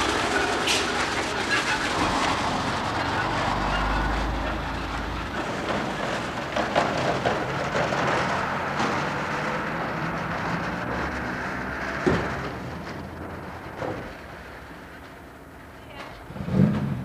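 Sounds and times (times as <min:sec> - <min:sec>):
distant traffic hiss and rumble: 0:00.0 - 0:17.0.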